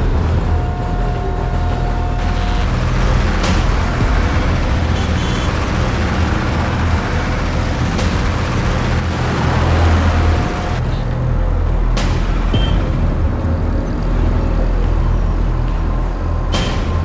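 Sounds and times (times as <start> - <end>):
vehicle engine rumbling: 0.0 - 16.6.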